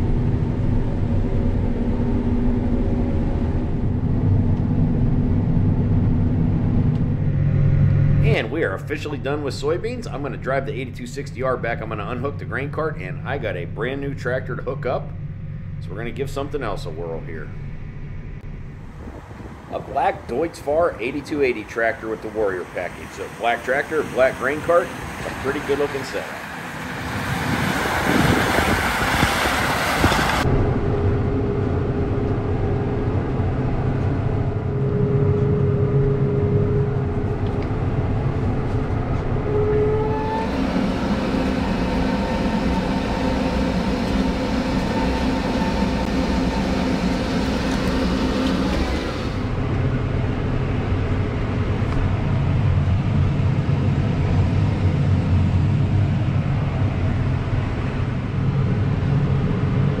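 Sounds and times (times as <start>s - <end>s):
tractor engine running: 0.0s - 34.6s, 40.4s - 60.0s
thin steady whine: 0.0s - 60.0s.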